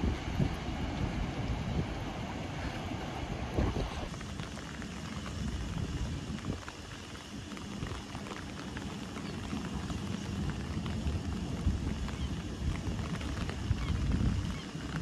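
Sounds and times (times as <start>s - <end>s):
steady outdoor rush: 0.0s - 15.0s
wind buffeting the microphone: 0.0s - 15.0s.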